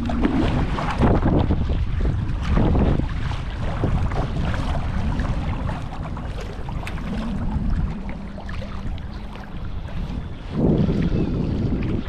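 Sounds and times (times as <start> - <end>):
water splashing around a kayak: 0.0 - 12.0
wind rumbling on microphone: 0.0 - 12.0.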